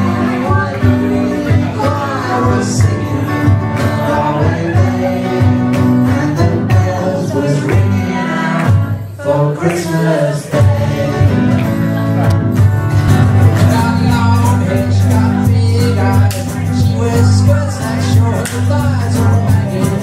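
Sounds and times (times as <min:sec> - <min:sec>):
person singing: 0:00.0 - 0:12.0, 0:13.4 - 0:20.0
live band playing: 0:00.0 - 0:20.0.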